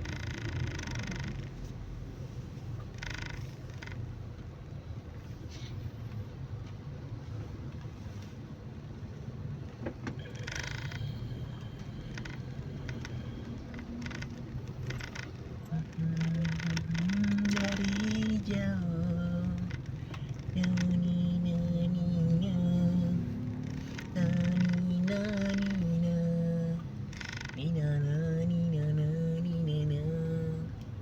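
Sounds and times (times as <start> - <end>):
car engine and road hum: 0.0 - 31.0.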